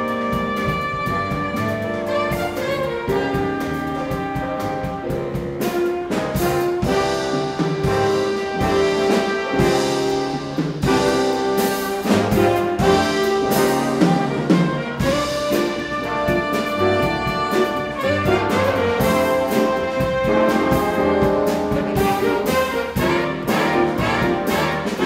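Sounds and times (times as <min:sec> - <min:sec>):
jazz big band playing: 0:00.0 - 0:25.0.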